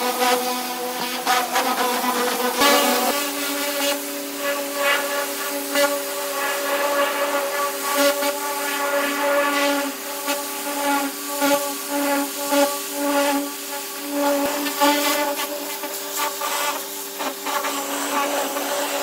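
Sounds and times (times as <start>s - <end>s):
pressure washer spray hiss: 0.0s - 19.0s.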